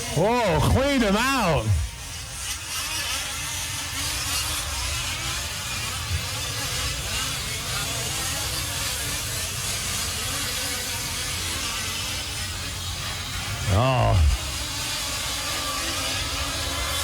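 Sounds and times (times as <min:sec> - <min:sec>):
small gasoline engines buzzing and revving: 0:00.0 - 0:17.0.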